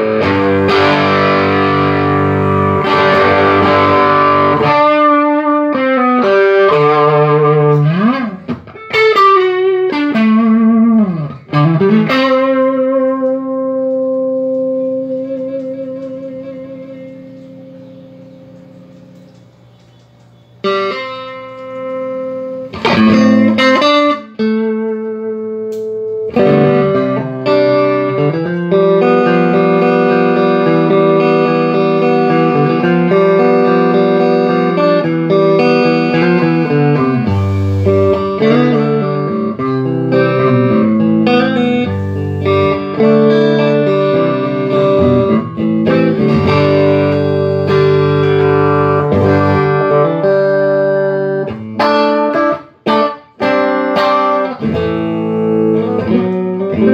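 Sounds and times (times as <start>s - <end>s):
electric guitar through amplifier: 0.0s - 56.9s.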